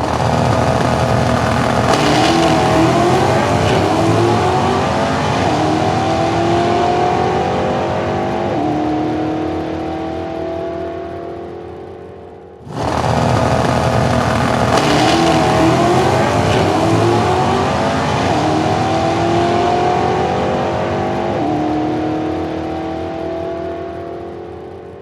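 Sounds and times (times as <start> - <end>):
racing car engine accelerating: 0.0 - 25.0.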